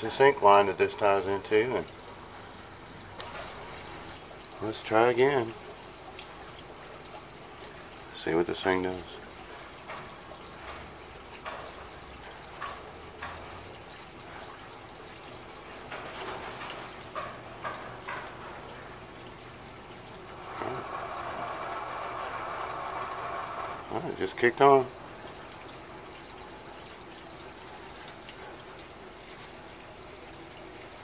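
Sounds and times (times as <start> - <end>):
pump humming: 0.0 - 31.0
wastewater gurgling and trickling: 0.0 - 31.0
water rushing: 0.0 - 31.0.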